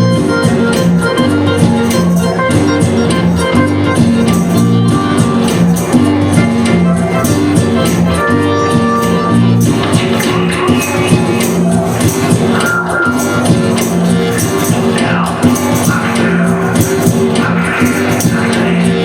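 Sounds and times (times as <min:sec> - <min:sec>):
bass line: 0:00.0 - 0:19.0
guitar: 0:00.0 - 0:19.0
percussion beat: 0:00.0 - 0:19.0.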